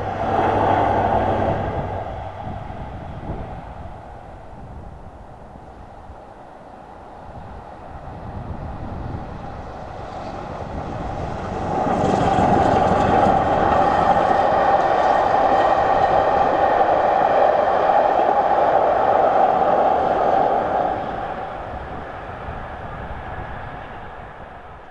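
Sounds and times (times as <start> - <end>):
steam train passing at speed: 0.0 - 24.9.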